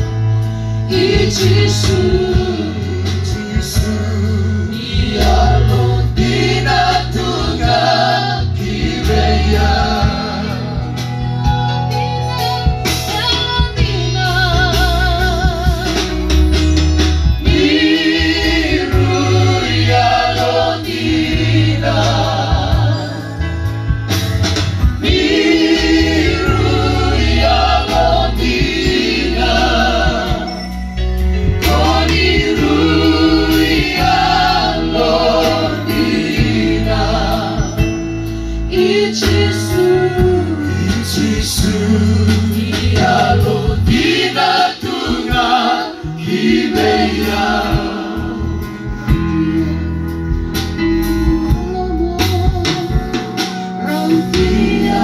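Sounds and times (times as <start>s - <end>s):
group singing into microphones: 0.0s - 16.5s, 17.2s - 50.4s, 51.0s - 55.0s
live band playing: 0.0s - 55.0s.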